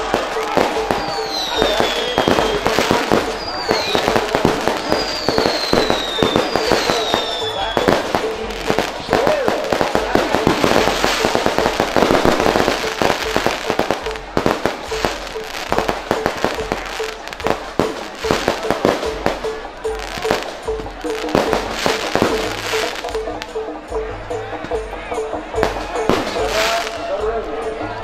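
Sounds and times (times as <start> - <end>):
fireworks bangs and crackling: 0.0 - 23.6, 25.6 - 27.2.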